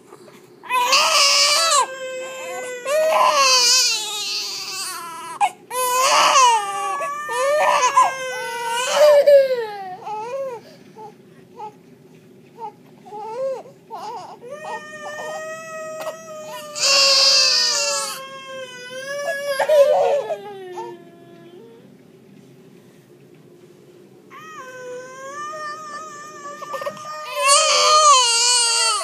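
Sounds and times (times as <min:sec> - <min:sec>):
newborn baby crying: 0:00.6 - 0:11.8, 0:12.6 - 0:21.8, 0:24.3 - 0:29.0
toddler crying: 0:00.7 - 0:11.7, 0:12.6 - 0:21.9, 0:24.3 - 0:29.0.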